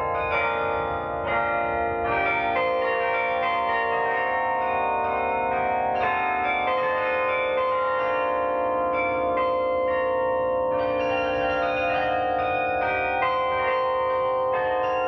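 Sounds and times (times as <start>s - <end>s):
carillon bells melody: 0.0s - 15.0s.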